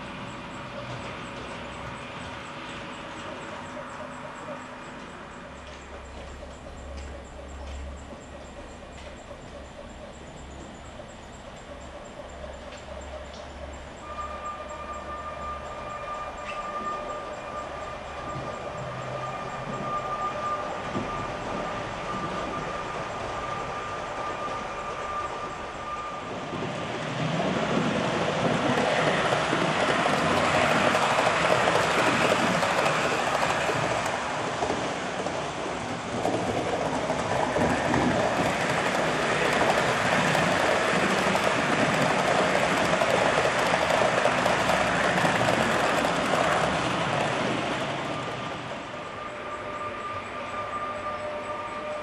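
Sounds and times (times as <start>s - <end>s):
model trains rolling on track: 0.0s - 52.0s.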